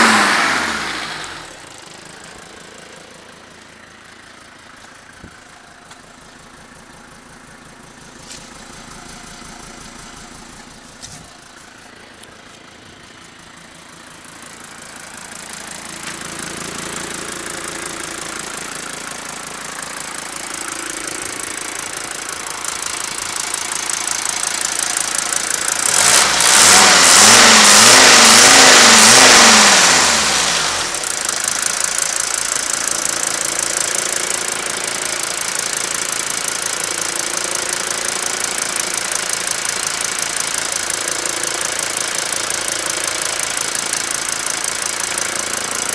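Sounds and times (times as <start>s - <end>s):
diesel engine revving and idling: 0.0s - 45.9s.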